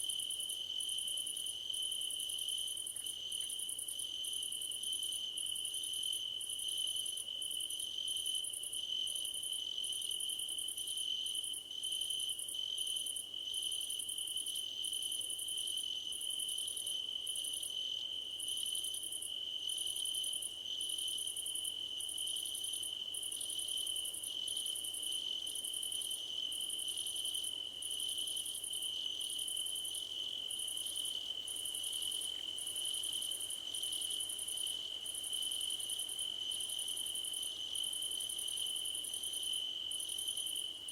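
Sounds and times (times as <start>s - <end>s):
high-pitched cricket chirping: 0.0s - 40.9s.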